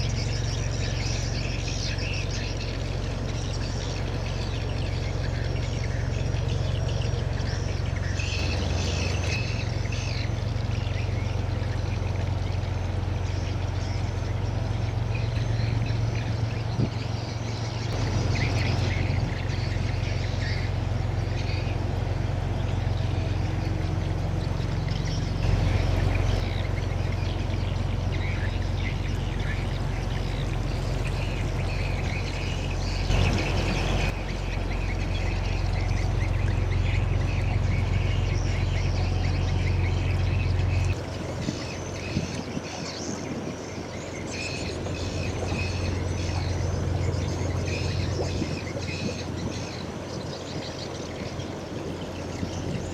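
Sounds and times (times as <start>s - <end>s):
birds chirping and calling: 0.0s - 52.9s
steady low rumble: 0.0s - 52.9s.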